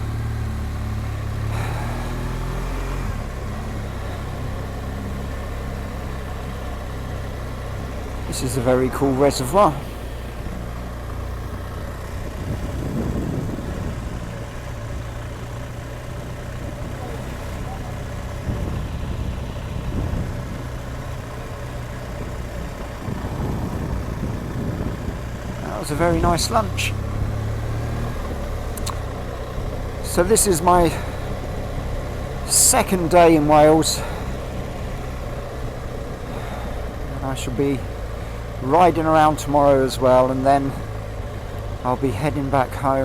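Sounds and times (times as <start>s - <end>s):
motorcycle engine running steadily: 0.0s - 43.0s
wind and road noise: 0.0s - 43.0s.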